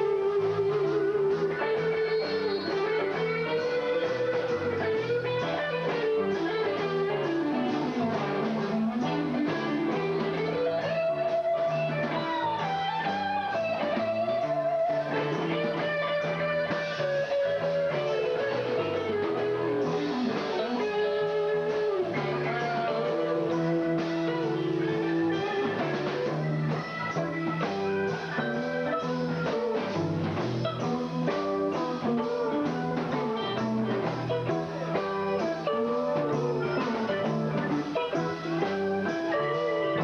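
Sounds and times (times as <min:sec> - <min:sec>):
electric guitar lead: 0:00.0 - 0:40.0
rock band playing: 0:00.0 - 0:40.0.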